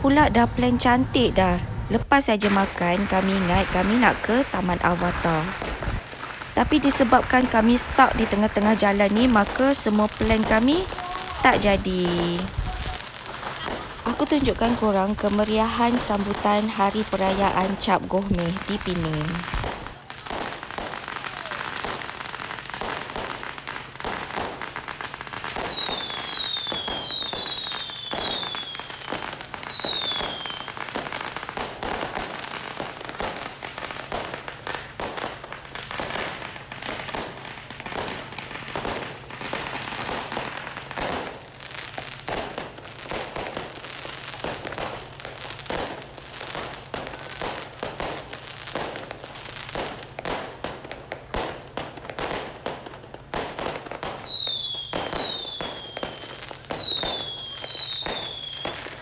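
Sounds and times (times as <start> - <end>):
fireworks crackling bangs: 0.0 - 59.0.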